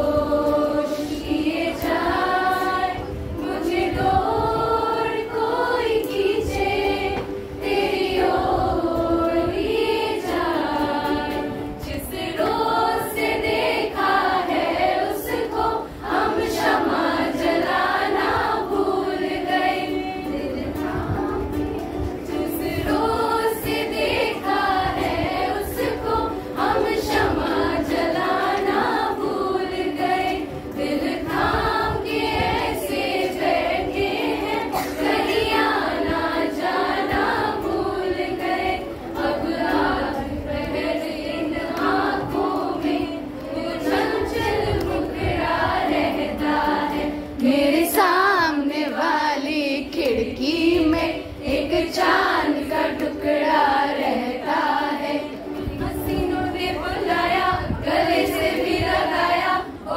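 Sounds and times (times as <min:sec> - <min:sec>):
group singing: 0:00.0 - 0:59.9
held accompaniment notes: 0:00.0 - 0:59.9.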